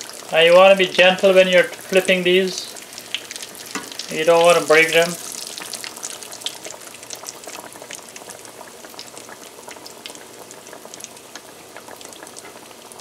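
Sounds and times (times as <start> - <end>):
fish cakes sizzling in oil: 0.0 - 13.0.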